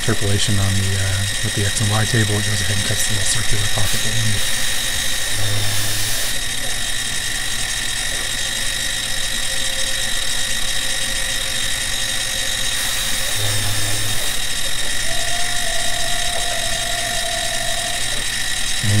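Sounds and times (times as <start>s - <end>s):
lower steady whine: 0.0s - 19.0s
milling machine spindle whine: 0.0s - 19.0s.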